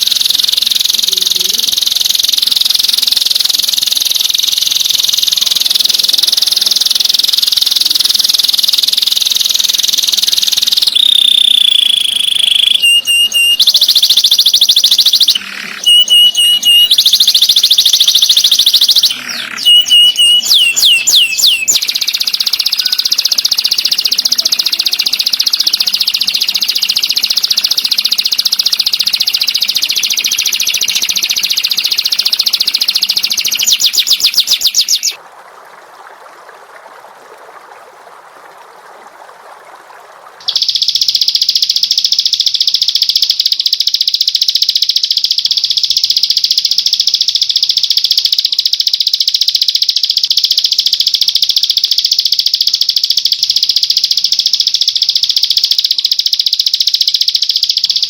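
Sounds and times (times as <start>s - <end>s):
songbird trilling and whistling: 0.0s - 35.2s, 40.4s - 58.0s.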